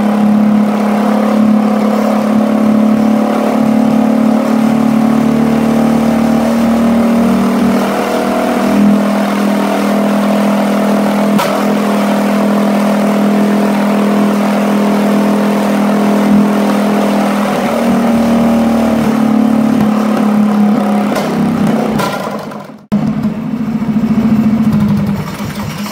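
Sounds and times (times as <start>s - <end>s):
small engine at full throttle: 0.0s - 25.9s.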